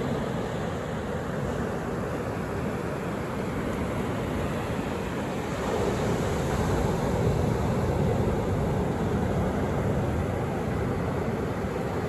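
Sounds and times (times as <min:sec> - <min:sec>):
surf waves breaking on beach: 0:00.0 - 0:12.0.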